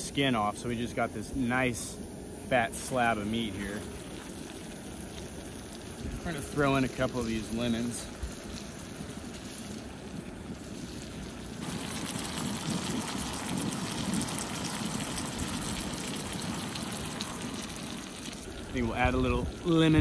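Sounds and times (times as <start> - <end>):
fish sizzling in butter: 2.3 - 20.0.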